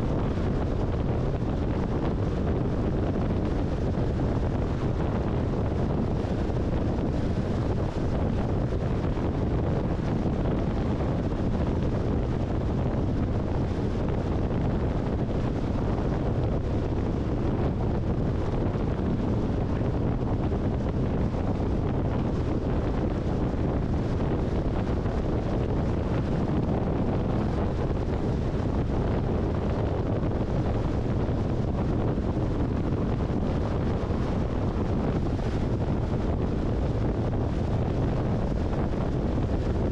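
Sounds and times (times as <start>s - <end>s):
car road noise at highway speed: 0.0s - 39.9s
wind on microphone: 0.0s - 39.9s.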